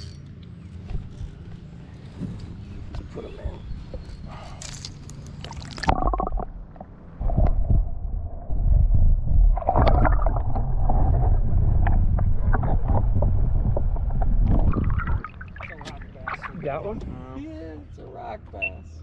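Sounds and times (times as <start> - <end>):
boat engine low rumble: 0.0 - 18.7.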